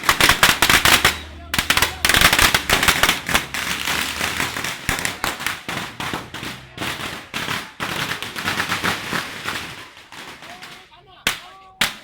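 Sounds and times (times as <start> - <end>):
firecrackers cracking: 0.0 - 12.0
loud firecracker bangs: 0.0 - 12.0.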